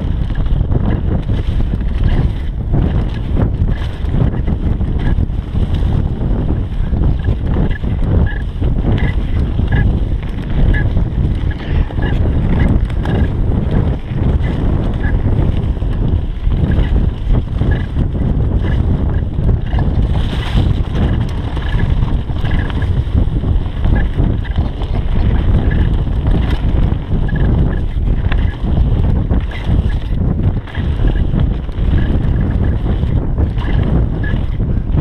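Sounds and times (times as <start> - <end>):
bike rattling over bumps: 0.0 - 35.0
tyres rolling on dirt: 0.0 - 35.0
wind on microphone: 0.0 - 35.0.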